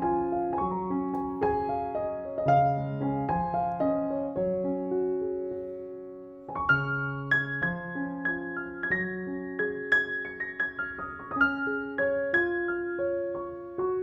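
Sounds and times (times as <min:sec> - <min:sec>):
piano notes and chords: 0:00.0 - 0:14.0.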